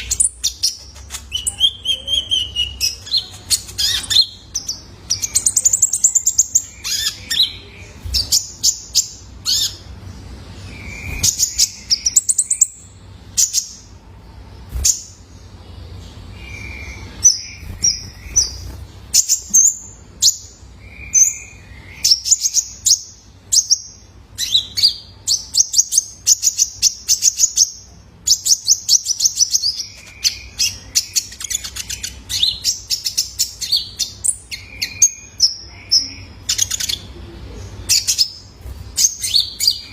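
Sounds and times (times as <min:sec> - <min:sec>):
sunbird chirping and twittering: 0:00.0 - 0:39.9.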